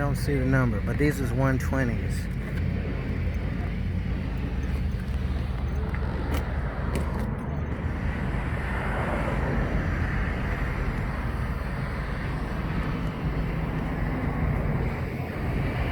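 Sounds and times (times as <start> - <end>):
wind noise on microphone: 2.4 - 15.9.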